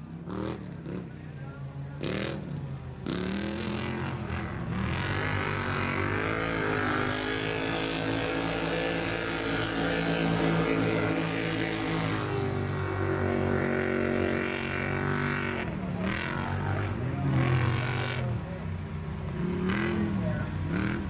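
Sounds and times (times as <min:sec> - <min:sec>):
engines revving: 0:00.0 - 0:21.0.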